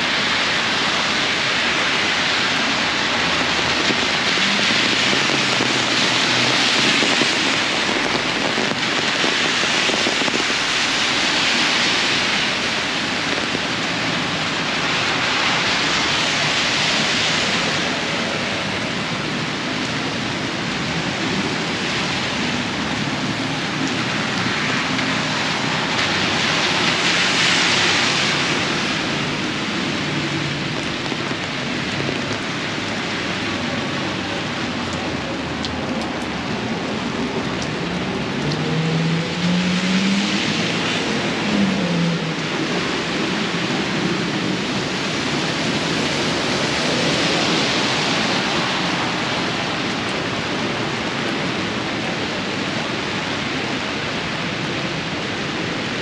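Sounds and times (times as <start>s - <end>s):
heavy rain on street: 0.0s - 56.0s
tyres hissing on wet pavement: 0.0s - 56.0s.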